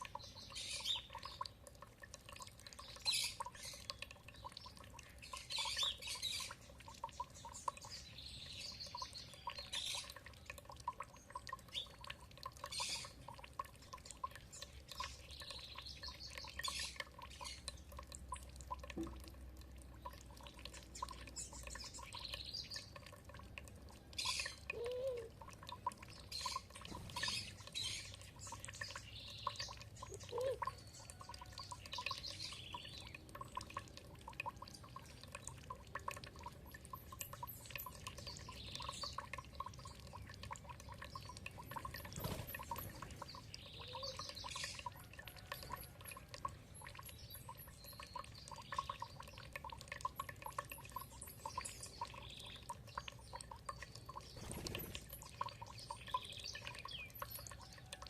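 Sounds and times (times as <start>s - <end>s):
songbirds chirping: 0.0s - 58.0s
water dripping and trickling: 0.0s - 58.0s.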